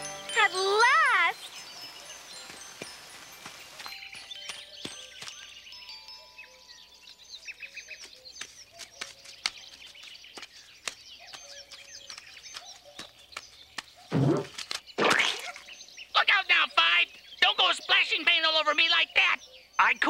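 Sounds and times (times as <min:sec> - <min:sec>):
bird trill: 0:00.0 - 0:20.0
birds chirping and whistling: 0:00.0 - 0:20.0.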